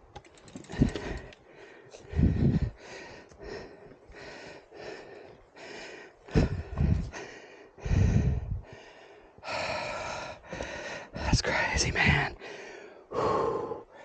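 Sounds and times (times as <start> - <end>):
person breathing hard: 0.5 - 14.0.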